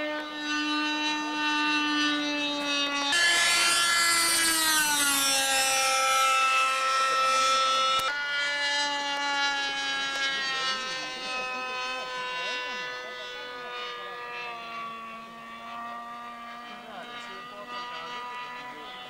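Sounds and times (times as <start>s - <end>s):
model jet engine whining: 0.0s - 19.0s.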